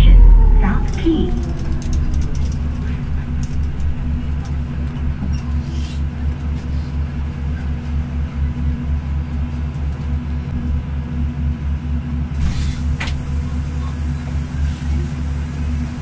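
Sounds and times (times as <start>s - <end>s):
bus interior hum and rumble: 0.0s - 16.0s.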